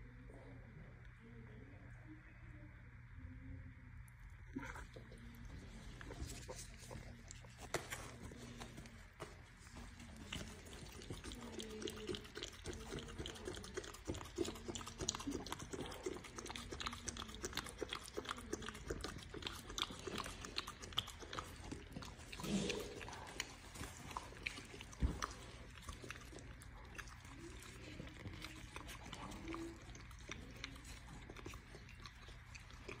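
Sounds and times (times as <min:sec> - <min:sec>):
dog licking with wet clicks: 0:04.5 - 0:33.0.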